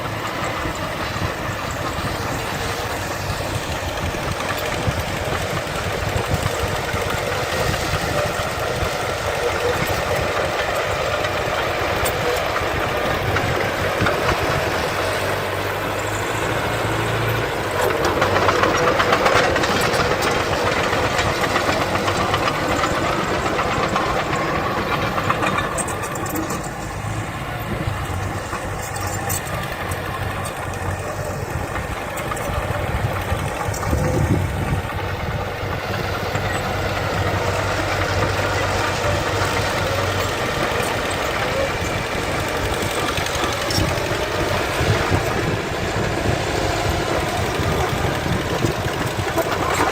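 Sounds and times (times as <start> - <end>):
earthmoving diesel engines: 0.0 - 49.9.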